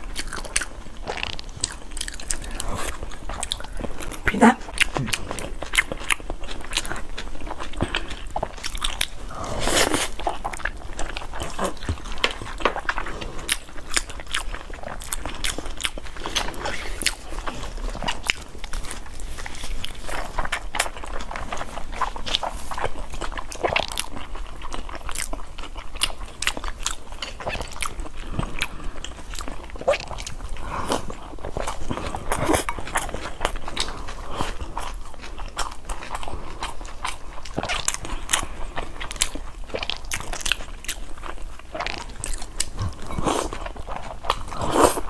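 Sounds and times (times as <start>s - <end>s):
wet chewing and smacking: 0.0s - 45.0s.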